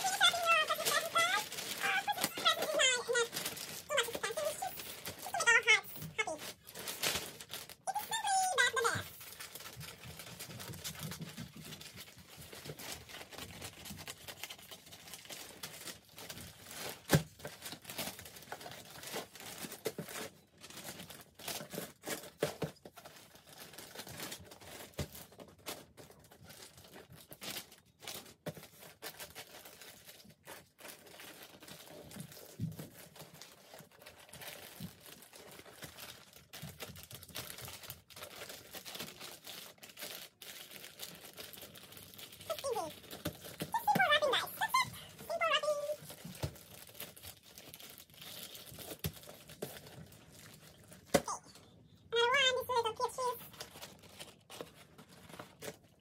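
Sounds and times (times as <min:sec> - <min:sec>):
wrapping paper rustling: 0:00.0 - 0:56.0.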